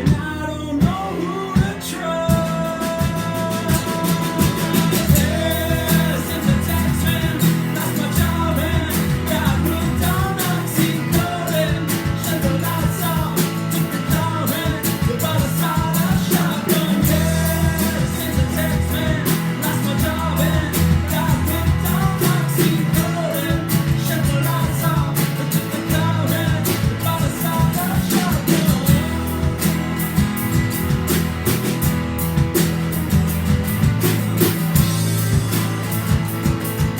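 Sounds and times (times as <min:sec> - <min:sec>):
held bass notes: 0:00.0 - 0:36.9
person singing rock song: 0:00.0 - 0:36.9
steady drum beat: 0:00.0 - 0:36.9
strummed guitar: 0:00.0 - 0:36.9.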